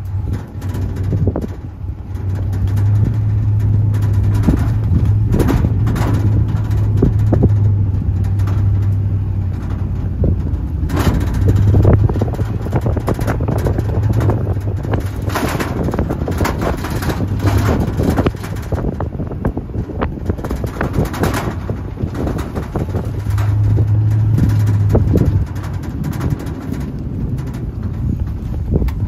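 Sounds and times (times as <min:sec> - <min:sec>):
knocks and rattles: 0:00.0 - 0:29.0
truck engine drone: 0:00.0 - 0:29.0
wind rushing over microphone: 0:00.0 - 0:29.0.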